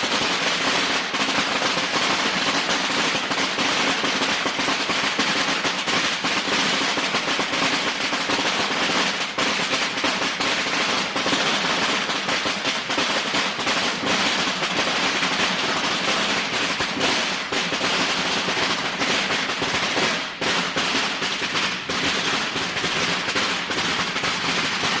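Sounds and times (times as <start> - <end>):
firecrackers crackling rapidly: 0.0 - 25.0.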